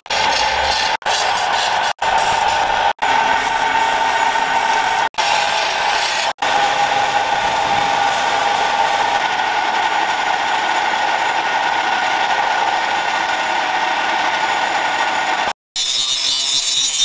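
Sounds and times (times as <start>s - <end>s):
wood lathe humming: 0.0s - 15.6s.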